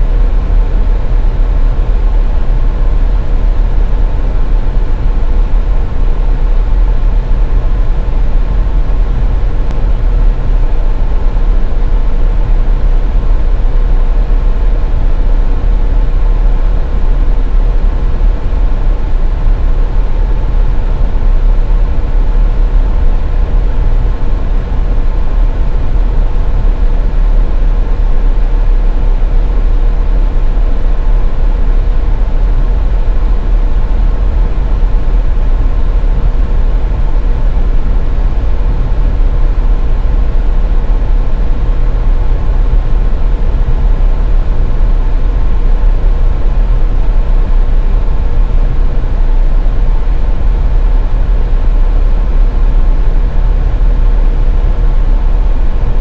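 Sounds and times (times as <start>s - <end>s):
car road noise rumble: 0.0s - 56.0s
faint steady hum: 0.0s - 56.0s.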